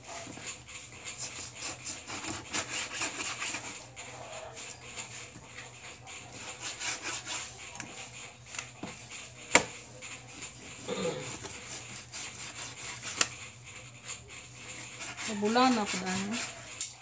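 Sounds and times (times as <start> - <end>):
knife sawing through meat: 0.0 - 17.0.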